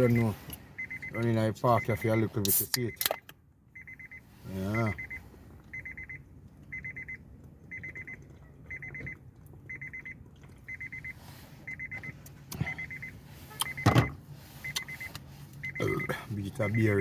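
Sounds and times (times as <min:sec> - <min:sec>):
electronic alarm beeping: 0:00.0 - 0:17.0
steady low hum: 0:00.0 - 0:17.0.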